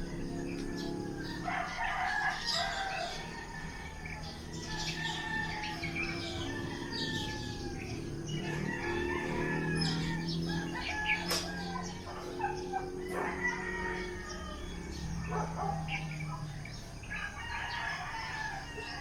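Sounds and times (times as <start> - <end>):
roosters crowing: 0.0 - 19.0
small birds chirping: 0.0 - 19.0.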